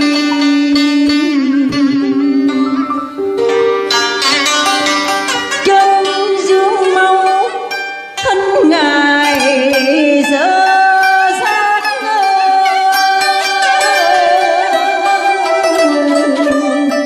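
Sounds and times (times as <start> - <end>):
plucked zither notes: 0.0 - 17.0.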